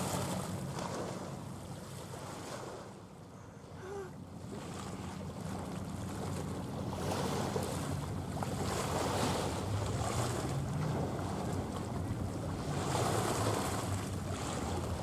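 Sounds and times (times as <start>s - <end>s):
small waves washing on shore: 0.0s - 15.0s.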